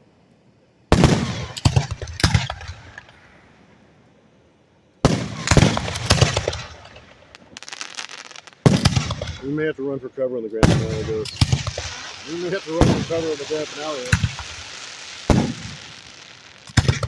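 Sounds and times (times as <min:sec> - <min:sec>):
fireworks bursting overhead: 0:00.9 - 0:03.8, 0:05.0 - 0:17.0.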